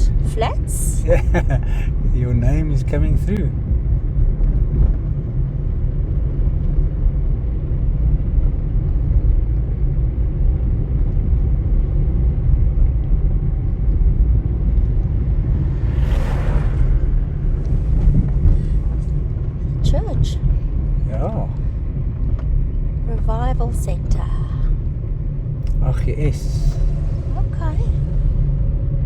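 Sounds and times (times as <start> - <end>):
car engine and tyres rumbling: 0.0 - 29.0.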